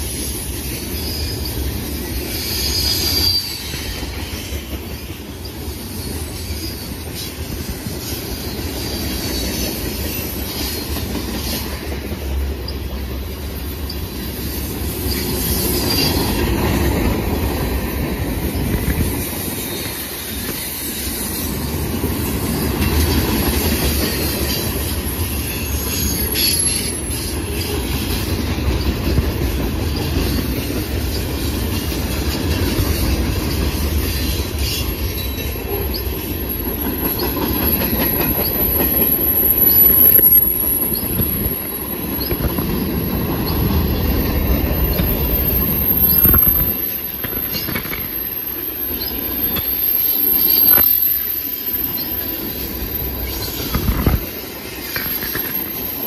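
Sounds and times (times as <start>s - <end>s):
high wheel squeals: 0.0s - 11.8s, 12.6s - 17.0s, 22.2s - 29.2s, 29.8s - 56.0s
steel wheels rumbling on rail: 0.0s - 56.0s.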